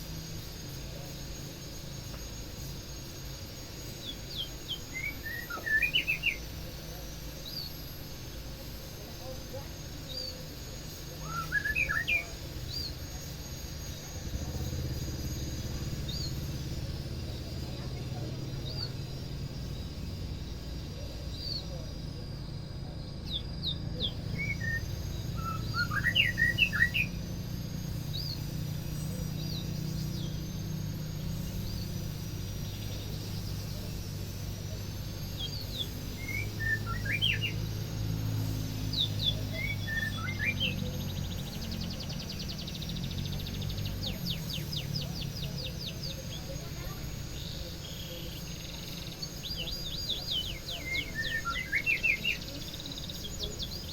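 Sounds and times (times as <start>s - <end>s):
steady low hum: 0.0s - 53.9s
bird singing whistled notes: 3.8s - 8.4s, 10.0s - 53.9s.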